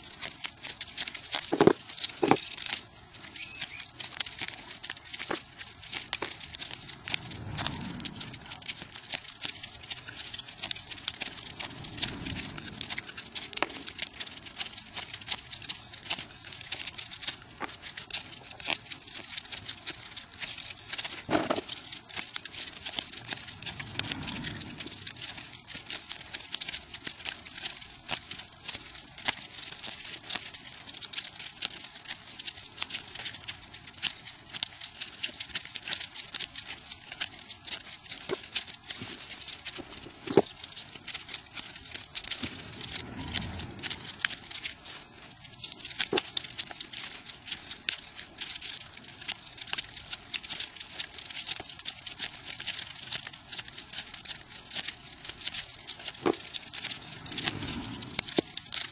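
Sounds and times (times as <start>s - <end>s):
paper rustling and crinkling: 0.0s - 58.9s.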